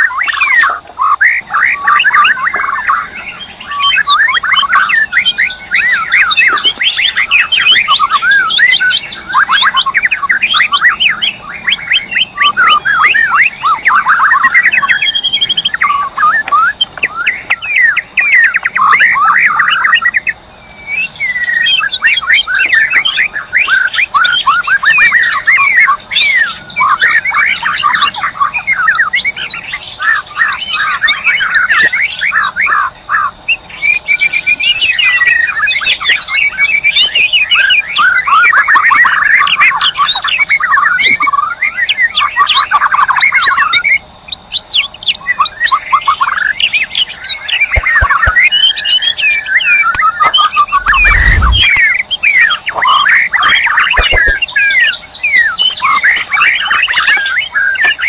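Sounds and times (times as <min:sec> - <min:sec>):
bird singing chirps and trills: 0:00.0 - 0:58.0.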